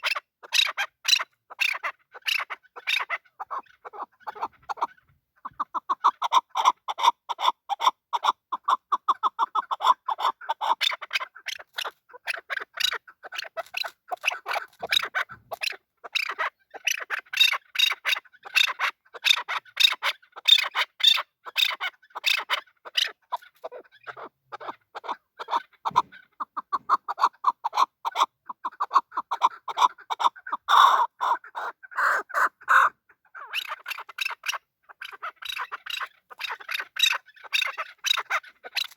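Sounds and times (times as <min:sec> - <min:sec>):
partridge clucking calls: 0:00.0 - 0:38.9.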